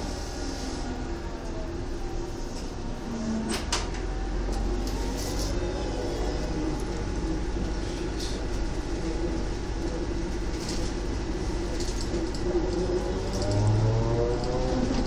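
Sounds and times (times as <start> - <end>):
trolleybus electric drive hum: 0.0 - 15.0.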